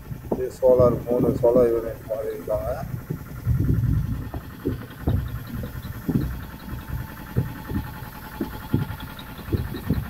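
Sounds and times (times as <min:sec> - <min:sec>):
low thumps: 0:00.0 - 0:10.0
pump humming: 0:00.0 - 0:10.0.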